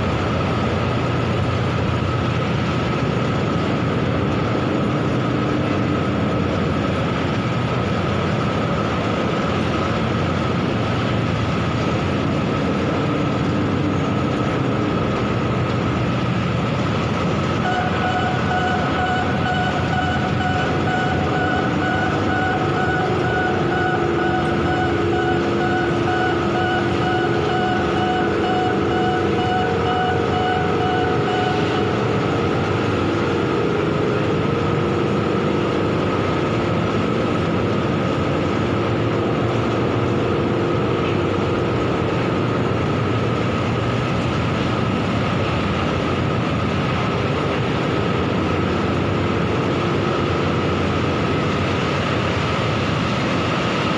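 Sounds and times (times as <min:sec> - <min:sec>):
heavy machinery rumble: 0:00.0 - 0:53.9
high machine whining tones: 0:00.0 - 0:53.9.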